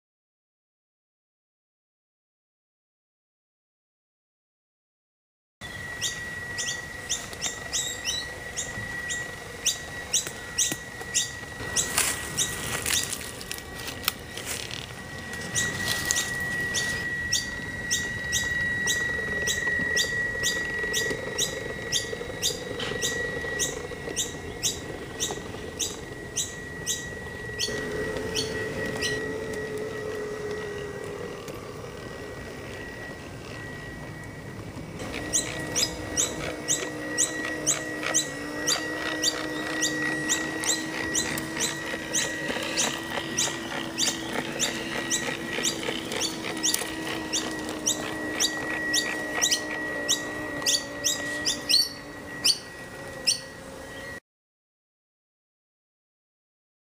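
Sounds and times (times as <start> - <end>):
faint motor whine: 5.6 - 54.2.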